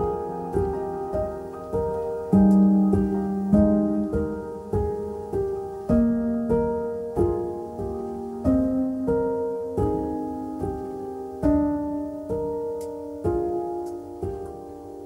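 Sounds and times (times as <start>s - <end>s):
slow solo piano piece: 0.0s - 15.0s.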